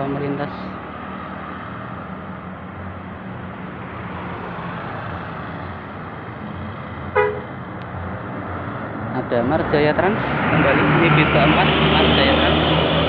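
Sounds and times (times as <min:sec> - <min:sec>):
bus passing on road: 0:00.0 - 0:13.0.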